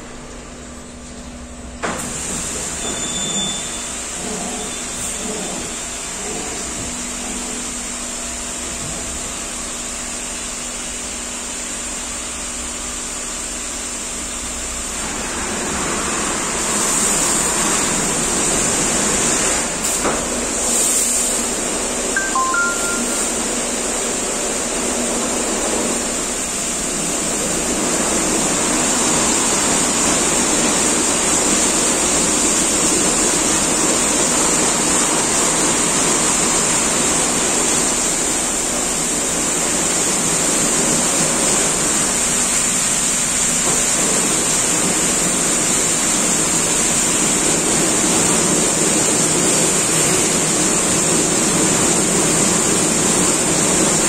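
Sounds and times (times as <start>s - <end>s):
car wash machine rumbling: 0.0s - 54.0s.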